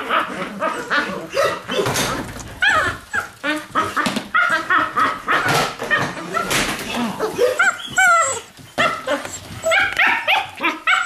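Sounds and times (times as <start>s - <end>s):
puppies yelping: 0.0s - 11.0s
puppies yipping and barking: 0.0s - 11.0s.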